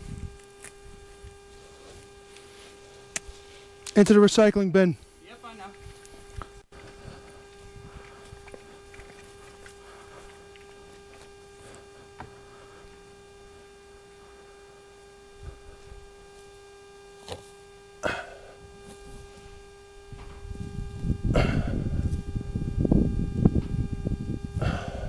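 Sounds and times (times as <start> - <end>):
faint electrical hum: 0.0 - 25.0.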